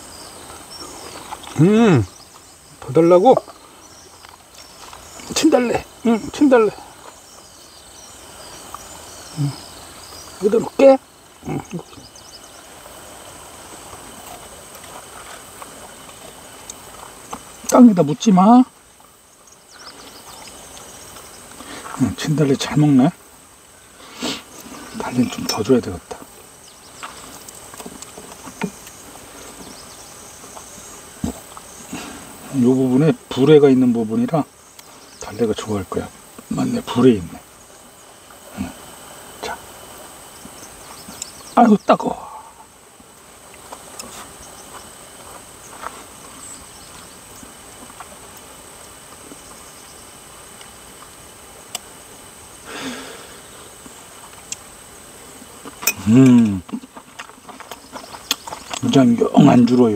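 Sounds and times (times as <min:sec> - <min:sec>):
insect chirring: 0:00.0 - 0:59.9.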